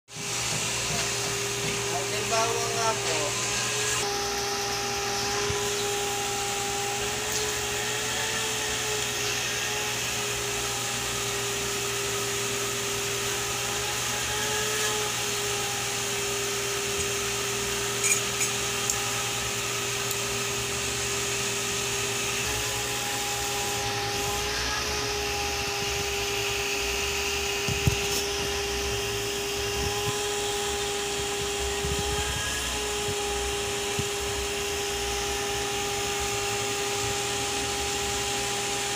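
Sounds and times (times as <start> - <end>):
motor hum with high whine: 0.2 - 38.9.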